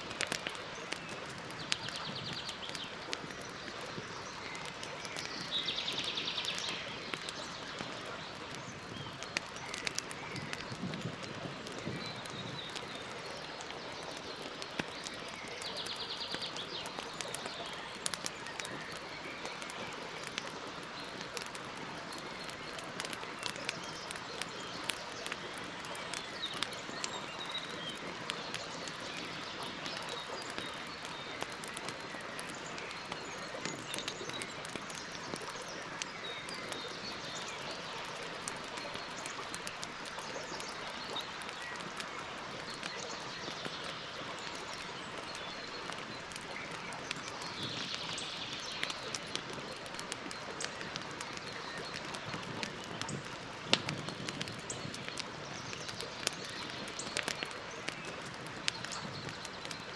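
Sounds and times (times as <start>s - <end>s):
campfire crackling: 0.0s - 59.9s
birds chirping: 0.2s - 59.9s.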